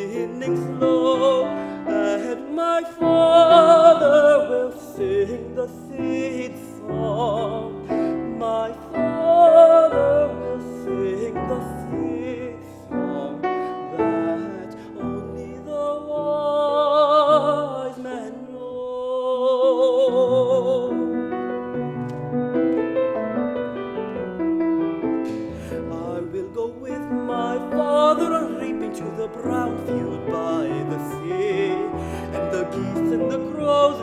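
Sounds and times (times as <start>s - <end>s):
piano accompaniment: 0.0s - 34.0s.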